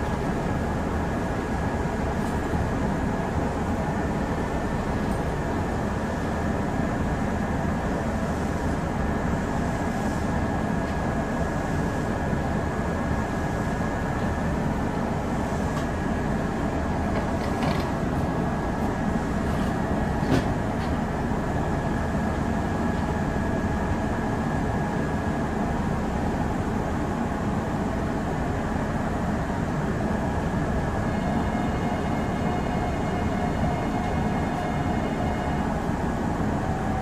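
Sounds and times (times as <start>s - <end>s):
electric train hum and rumble: 0.0s - 37.0s.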